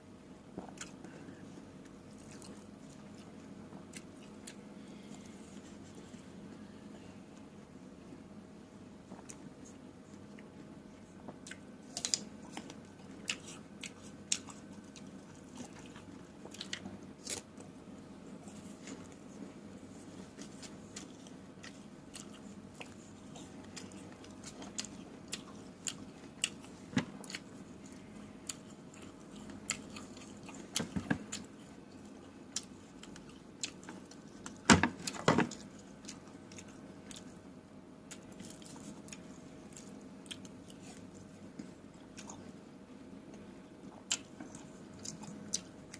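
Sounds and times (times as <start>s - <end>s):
person chewing and biting fruit: 0.5s - 6.2s, 11.2s - 17.7s, 18.3s - 37.4s, 38.0s - 42.5s, 43.3s - 45.9s.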